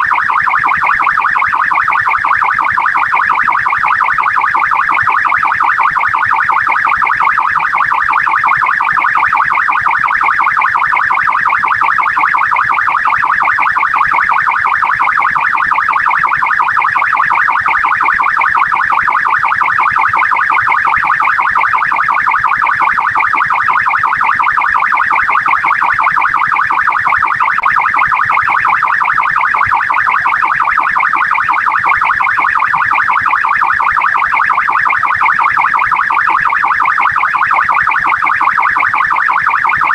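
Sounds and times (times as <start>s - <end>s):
police car siren warbling: 0.0s - 39.9s.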